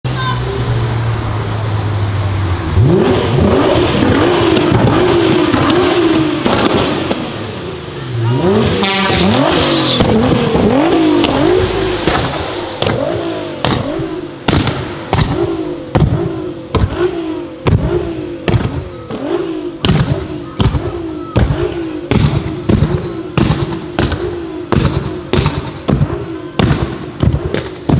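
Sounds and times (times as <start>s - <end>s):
car engine revving: 0.4s - 27.9s
exhaust backfire bangs: 2.8s - 7.6s, 8.4s - 27.9s.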